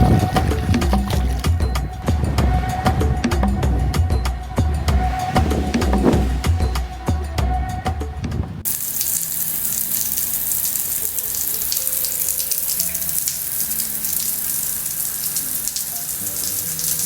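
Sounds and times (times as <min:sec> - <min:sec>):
rushing water: 0:00.0 - 0:03.1, 0:04.6 - 0:07.5, 0:08.6 - 0:17.0.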